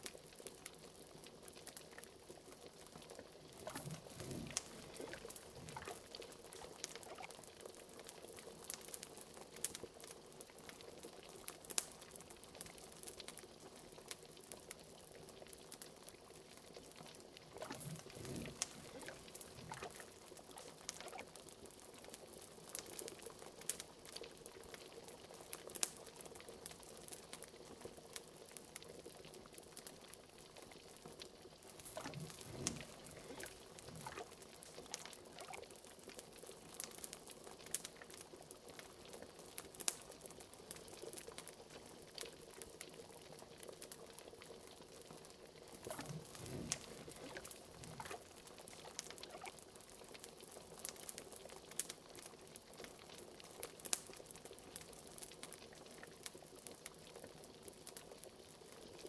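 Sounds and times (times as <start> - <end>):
liquid bubbling in a pot: 0.0 - 59.0.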